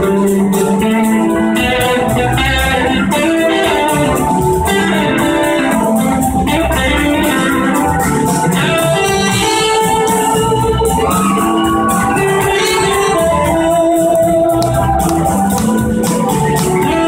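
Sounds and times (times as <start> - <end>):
drums steady beat: 0.0 - 17.0
electric guitars: 0.0 - 17.0.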